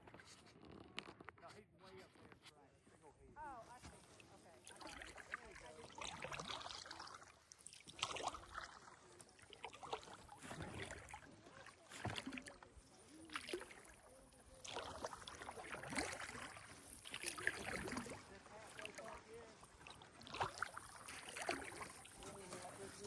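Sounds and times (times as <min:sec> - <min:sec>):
paddle strokes splashing water: 0:03.5 - 0:23.0.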